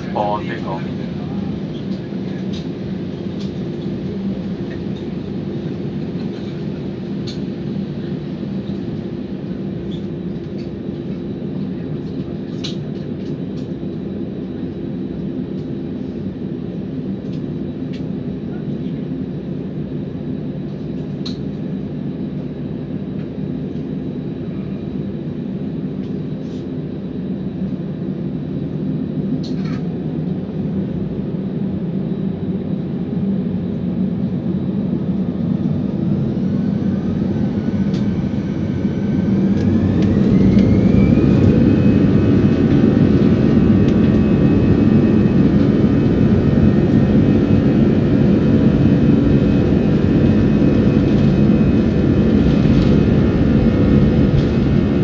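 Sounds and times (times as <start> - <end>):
jet engines humming in cabin: 0.0 - 55.0.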